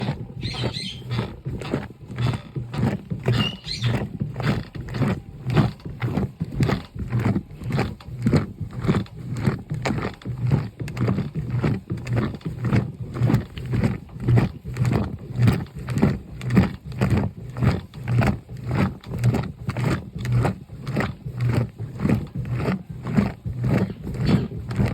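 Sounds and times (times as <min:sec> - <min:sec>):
water sloshing in washing machine: 0:00.0 - 0:24.9.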